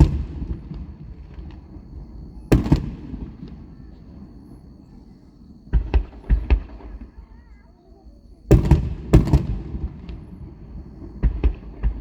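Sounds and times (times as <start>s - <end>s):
faint fireworks pops: 0.0s - 12.0s
fireworks booming: 0.0s - 12.0s.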